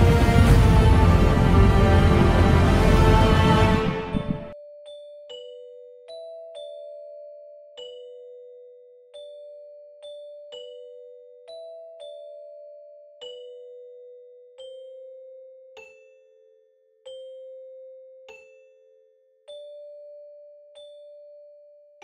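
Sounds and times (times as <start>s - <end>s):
slow bell-like notes melody: 0.0s - 22.0s.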